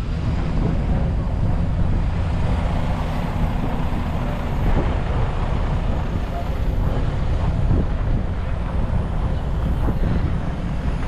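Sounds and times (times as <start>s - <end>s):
heavy trucks rumbling: 0.0s - 11.0s.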